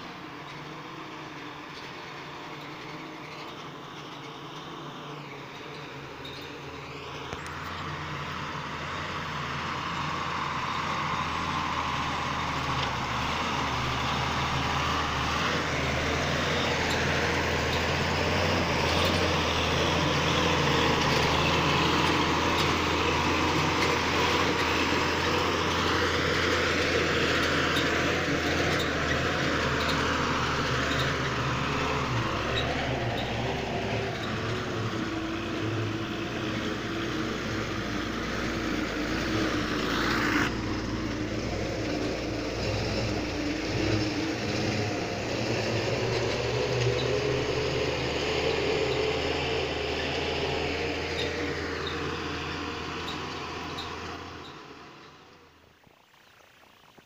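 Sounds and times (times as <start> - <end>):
bus engine running: 0.0 - 55.8.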